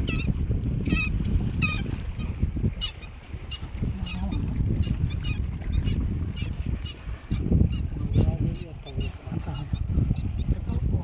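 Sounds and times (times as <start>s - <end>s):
bird calling: 0.0s - 10.6s.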